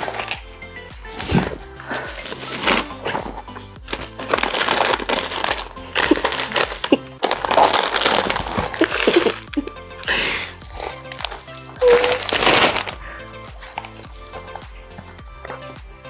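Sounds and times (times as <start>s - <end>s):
plastic packets crinkling: 0.0s - 0.5s, 1.1s - 15.9s
background music: 0.0s - 16.0s.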